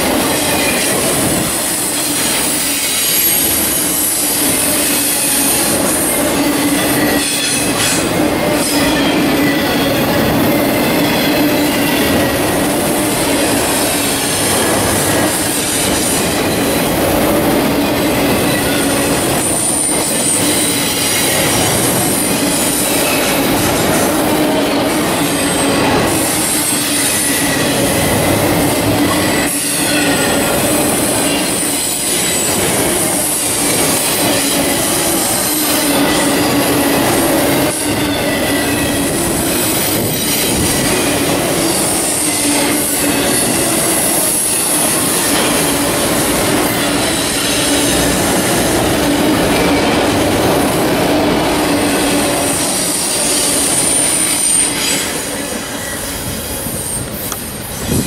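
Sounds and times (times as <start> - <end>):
rumble of train wheels on rail: 0.0 - 58.0.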